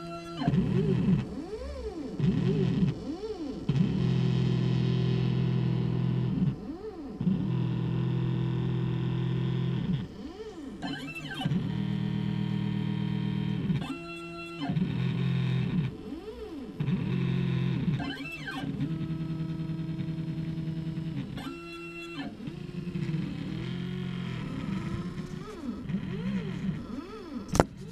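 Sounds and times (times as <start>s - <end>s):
stepper motors whining: 0.0s - 27.6s.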